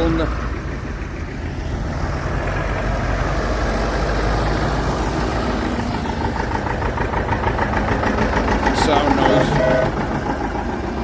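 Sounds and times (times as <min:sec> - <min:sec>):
tractor engine driving past: 0:00.0 - 0:11.0.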